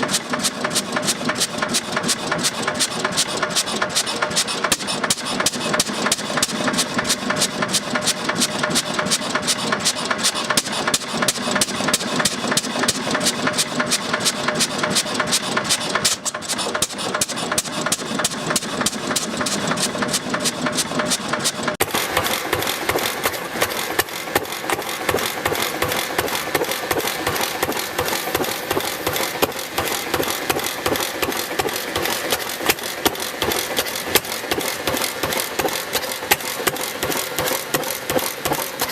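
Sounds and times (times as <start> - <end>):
engine running with rapid beat: 0.0 - 38.9
stationary engine idling: 0.0 - 38.9.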